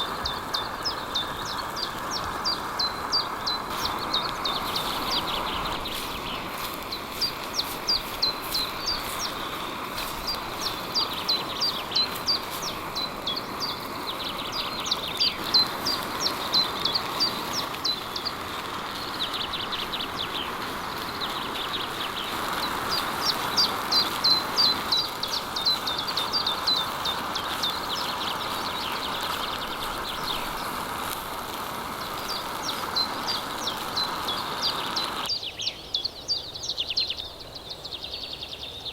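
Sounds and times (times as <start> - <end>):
songbirds chirping: 0.0 - 38.9
steady background hiss: 0.0 - 38.9.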